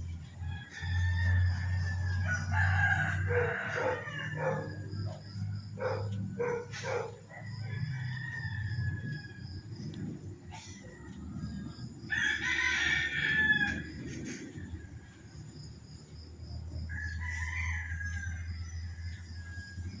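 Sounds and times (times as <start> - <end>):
rooster crowing: 0.4 - 9.8, 10.5 - 15.2, 16.8 - 20.0.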